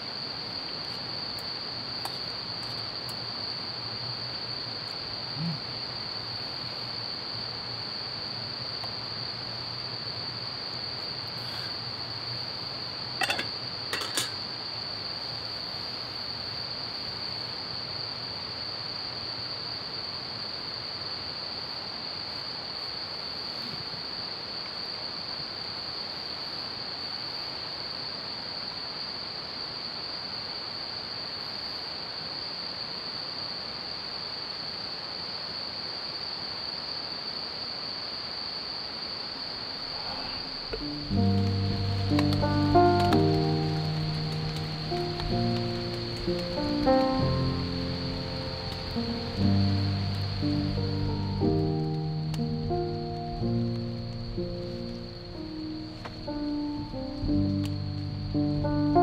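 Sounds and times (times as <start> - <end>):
crickets chirping: 0.0 - 59.0
soft background hiss: 0.0 - 59.0.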